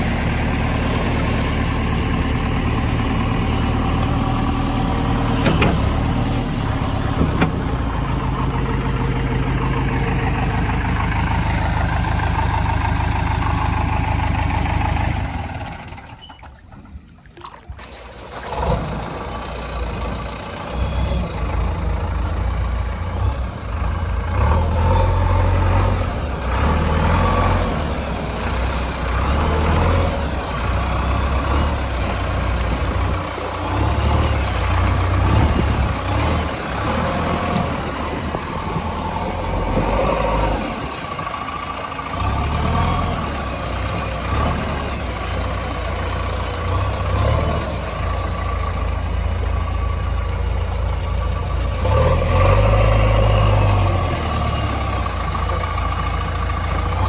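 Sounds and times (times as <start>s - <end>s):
heavy diesel engine running: 0.0s - 17.1s, 17.8s - 57.0s.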